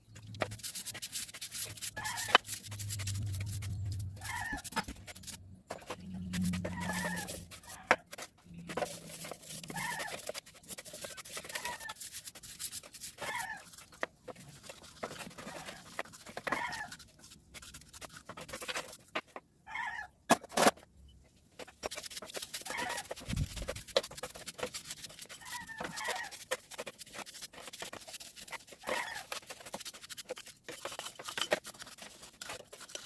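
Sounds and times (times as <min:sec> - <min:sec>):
wet brush scrubbing: 0:00.3 - 0:19.1, 0:21.6 - 0:33.0.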